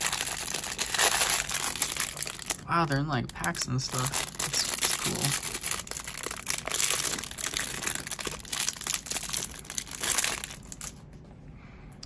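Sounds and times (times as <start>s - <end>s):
plastic bag crinkling: 0.0s - 11.1s.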